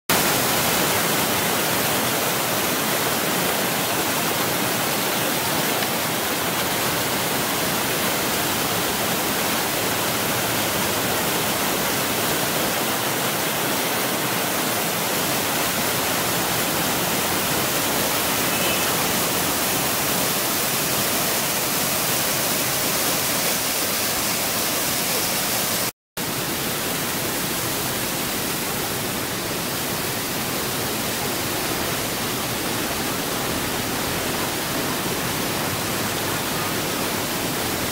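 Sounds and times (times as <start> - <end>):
waterfall roaring over rocks: 0.1 - 37.9.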